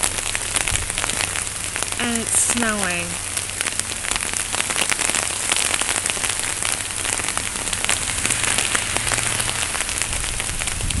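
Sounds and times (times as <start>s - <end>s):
wind rumble: 0.0s - 11.0s.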